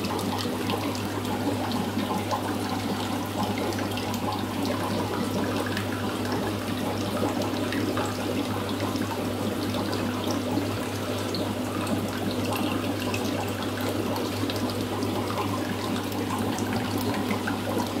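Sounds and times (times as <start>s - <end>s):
pump humming: 0.0s - 18.0s
water trickling and splashing: 0.0s - 18.0s.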